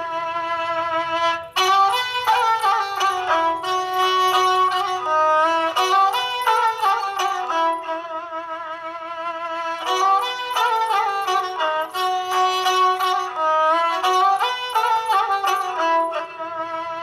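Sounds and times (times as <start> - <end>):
bowed fiddle melody: 0.0 - 17.0.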